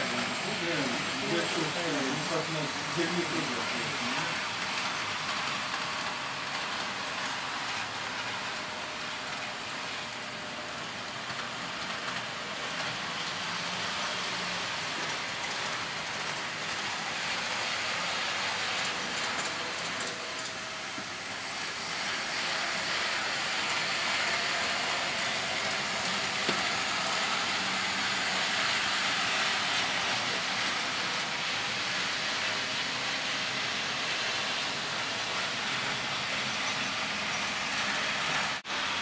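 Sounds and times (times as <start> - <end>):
model train wheels on track: 0.0 - 39.0.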